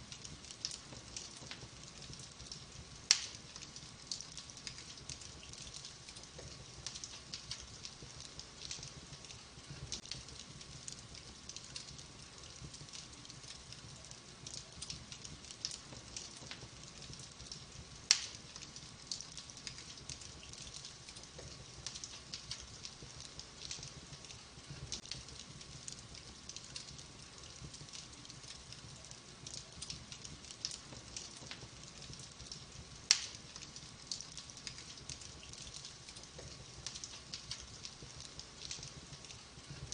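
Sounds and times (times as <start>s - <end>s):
wood fire crackling: 0.0s - 39.9s
sharp pops of fire: 0.1s - 39.9s.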